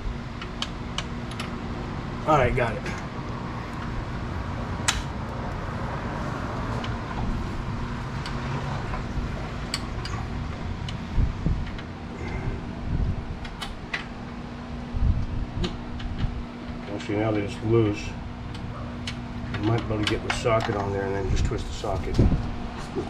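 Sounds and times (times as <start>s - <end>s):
fan-like mechanical hum: 0.0s - 23.0s.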